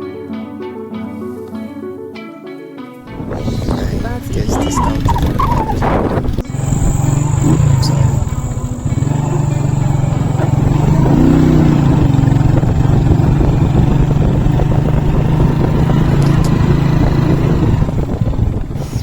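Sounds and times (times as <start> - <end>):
engine droning: 3.1 - 19.0.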